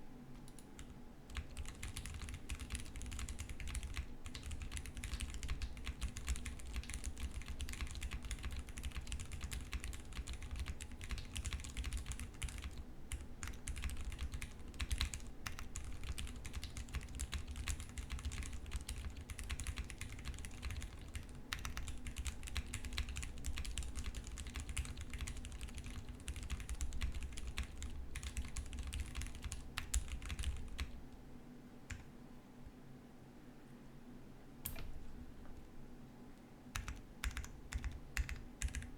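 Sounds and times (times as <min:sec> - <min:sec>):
mechanical keyboard typing: 0:00.5 - 0:31.0, 0:36.8 - 0:38.9.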